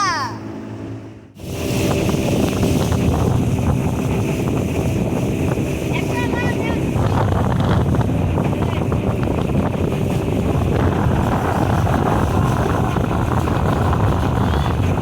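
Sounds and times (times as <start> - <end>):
motorboat motor drone: 0.0 - 15.0
wind rumble on microphone: 0.9 - 15.0.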